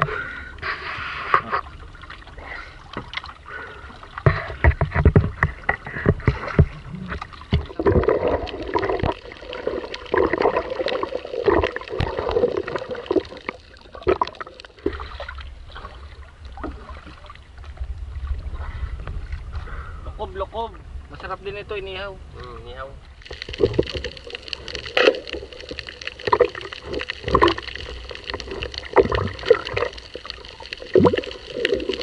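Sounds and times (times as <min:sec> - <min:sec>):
water splashing around canoe: 0:00.0 - 0:20.0, 0:23.1 - 0:32.0.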